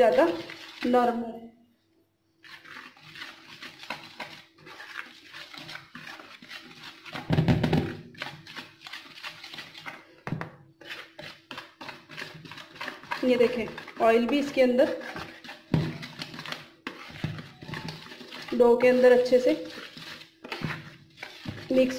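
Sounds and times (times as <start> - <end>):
whisk scraping in plastic bowl: 0.0 - 1.2, 2.4 - 21.9.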